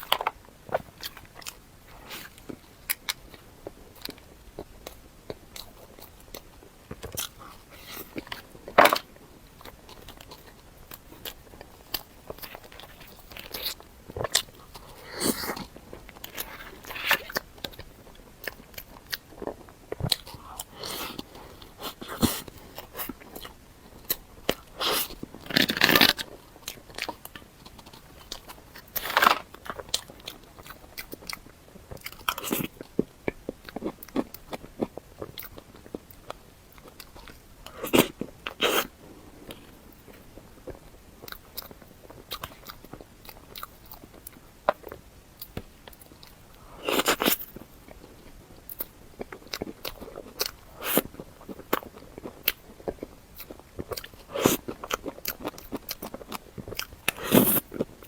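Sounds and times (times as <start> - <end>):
crunchy bites and chewing: 0.0 - 58.0.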